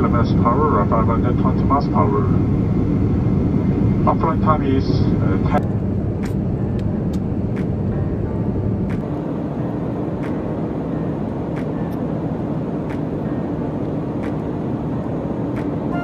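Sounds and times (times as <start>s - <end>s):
airliner engines roaring: 0.0s - 16.0s.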